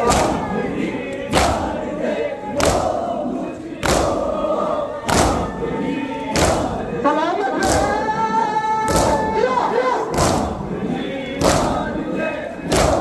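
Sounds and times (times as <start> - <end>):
crowd striking chests in unison: 0.0 - 7.0, 7.6 - 8.2, 8.8 - 13.0
crowd voices: 0.0 - 13.0.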